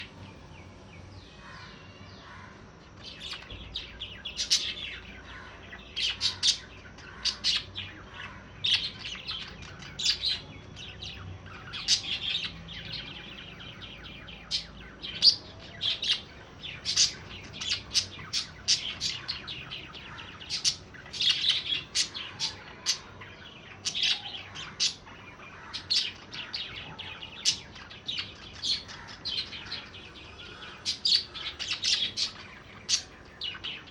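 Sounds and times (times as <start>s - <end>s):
budgerigars chirping: 1.4s - 33.9s.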